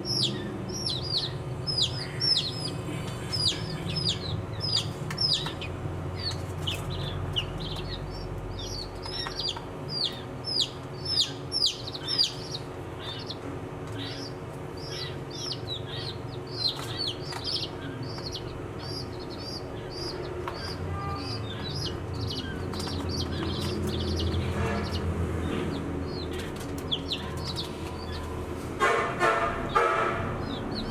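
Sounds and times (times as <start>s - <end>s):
baby chicks peeping: 0.0s - 30.9s
steady low hum: 0.0s - 30.9s.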